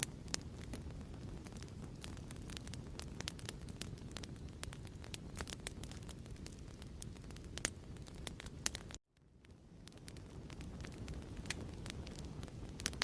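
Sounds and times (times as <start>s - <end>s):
fire burning rumble: 0.0s - 13.0s
fire popping and crackling: 0.0s - 13.0s.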